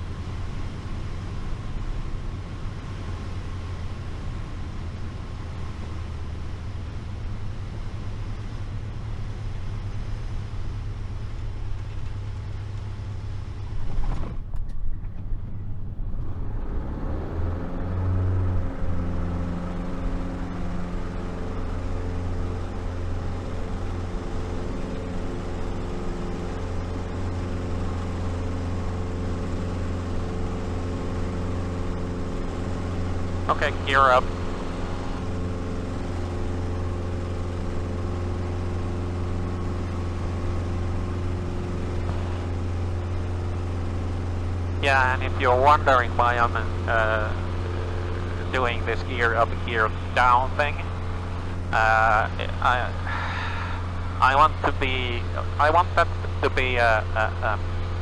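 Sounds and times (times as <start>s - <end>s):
aircraft engine drone: 0.0s - 58.0s.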